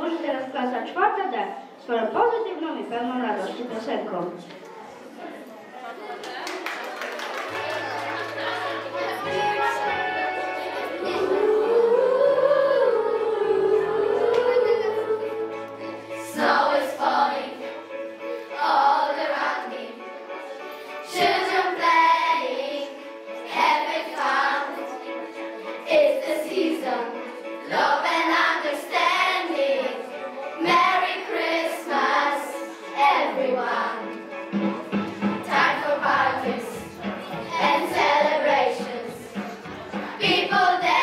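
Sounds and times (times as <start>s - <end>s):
children's choir singing: 6.9s - 41.0s
backing music: 7.2s - 41.0s.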